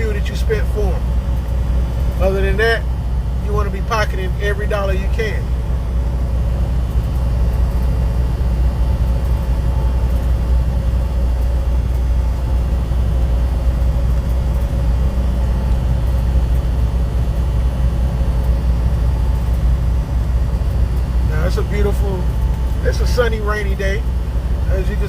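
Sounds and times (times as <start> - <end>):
truck engine and road noise: 0.0 - 25.0.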